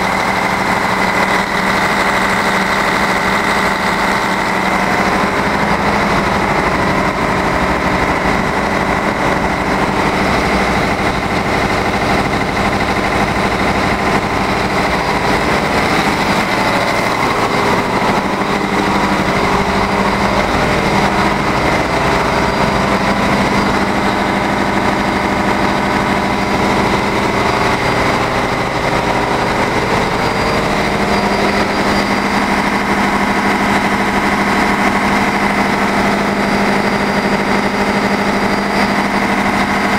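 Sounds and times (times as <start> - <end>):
high machinery whine: 0.0 - 39.9
ship engine room machinery: 0.0 - 39.9.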